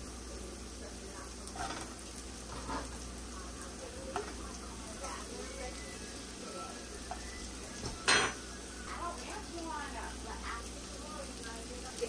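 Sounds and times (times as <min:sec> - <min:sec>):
butter and onions sizzling: 0:00.0 - 0:12.0.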